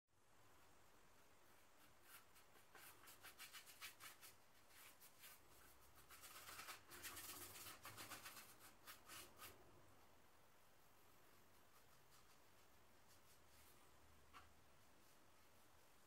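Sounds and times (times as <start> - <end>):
paintbrush scratching on canvas: 1.4 - 9.8, 10.8 - 16.0.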